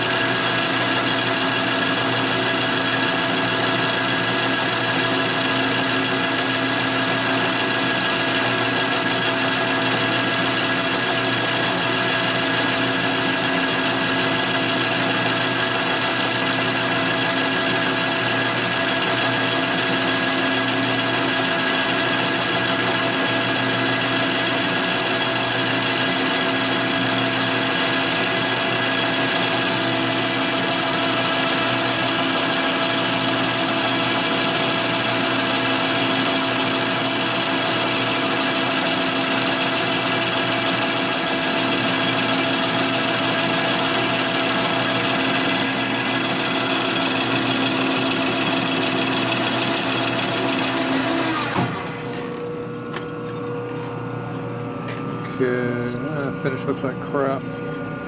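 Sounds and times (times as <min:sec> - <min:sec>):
metal lathe humming: 0:00.0 - 0:58.0.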